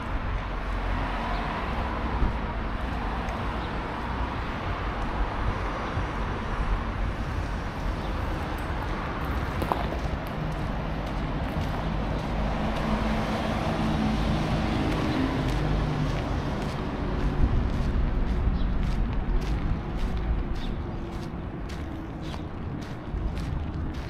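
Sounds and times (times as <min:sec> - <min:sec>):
road traffic: 0:00.0 - 0:24.0
vehicle engine hum: 0:00.0 - 0:24.0.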